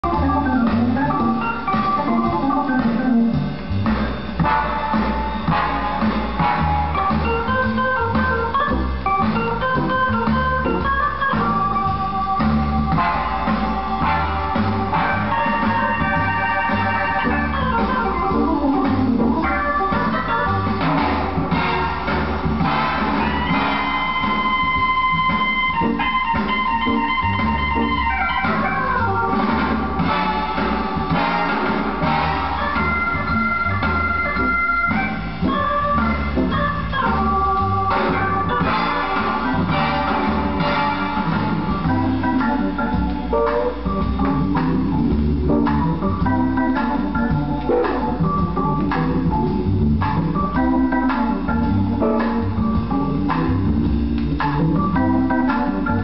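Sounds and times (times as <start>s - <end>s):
jazz organ chords: 0.0s - 56.0s
pulsing bass line: 0.0s - 56.0s.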